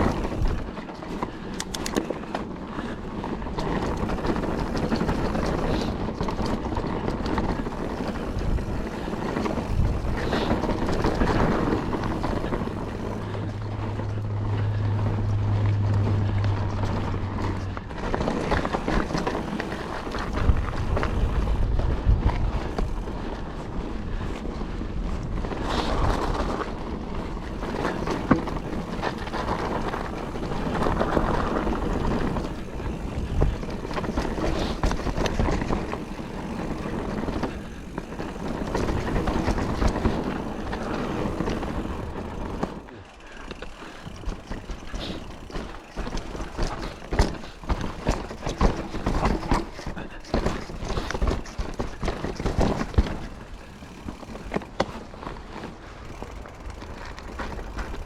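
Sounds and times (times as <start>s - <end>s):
bike knocking and rattling: 0.0s - 58.0s
bike tyres on dirt and gravel: 0.0s - 58.0s.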